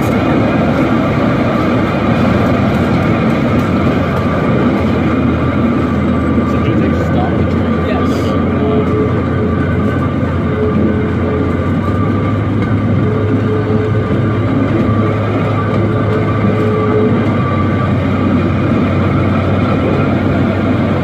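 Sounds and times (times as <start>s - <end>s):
ride train low drone: 0.0s - 21.0s
train cars rolling: 0.0s - 21.0s.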